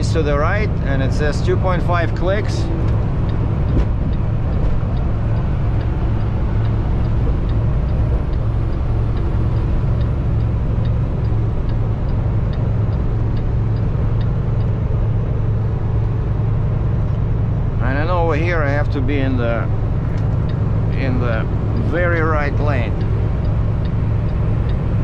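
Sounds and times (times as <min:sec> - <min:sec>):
light regular ticking: 0:00.0 - 0:25.0
truck engine and tyres droning: 0:00.0 - 0:25.0.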